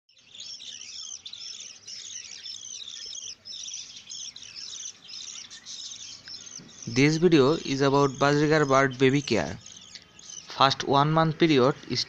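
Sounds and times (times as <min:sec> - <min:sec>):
budgerigars chattering: 0:00.1 - 0:12.0.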